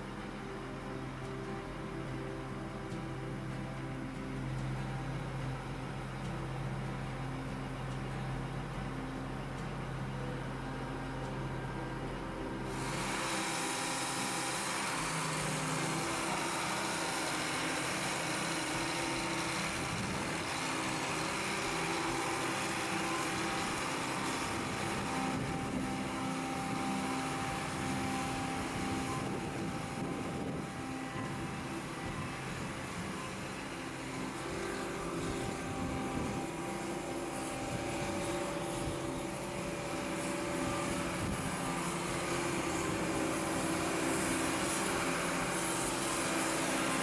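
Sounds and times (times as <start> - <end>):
tracked tractor engine running: 0.0 - 47.0.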